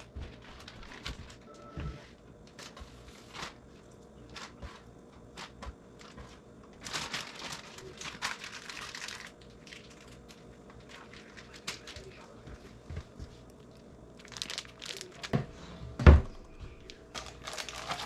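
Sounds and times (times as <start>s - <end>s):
crinkling rustles: 0.0s - 15.6s, 16.4s - 18.0s.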